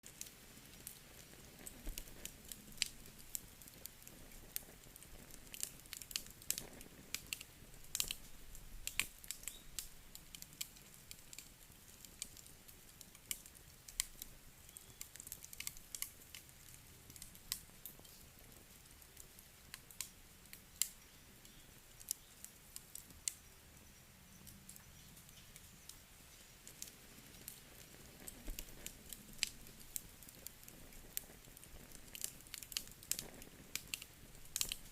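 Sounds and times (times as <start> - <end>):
faint hiss: 0.0 - 34.9
wood fire crackling: 0.0 - 34.9.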